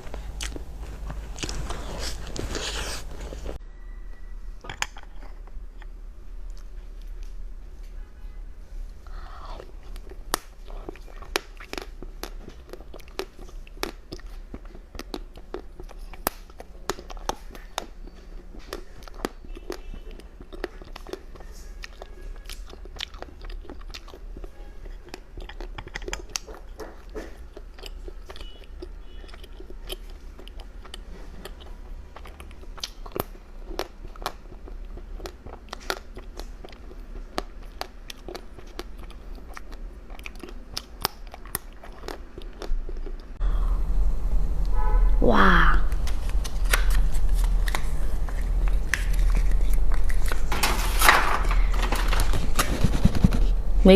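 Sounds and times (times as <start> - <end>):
crunchy food chewing: 0.0 - 3.6, 9.1 - 43.4, 46.0 - 53.6.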